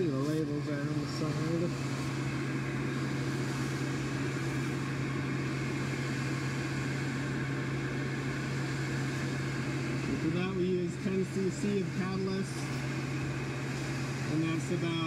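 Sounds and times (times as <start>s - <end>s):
fan motor humming: 0.0s - 15.0s.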